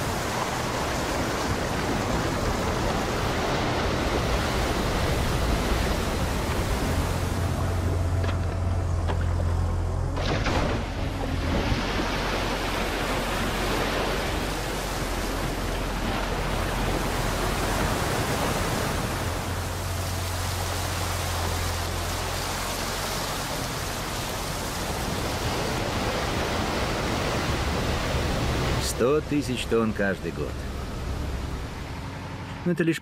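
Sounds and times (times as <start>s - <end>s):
water pouring and splashing: 0.0s - 8.7s, 10.2s - 32.0s.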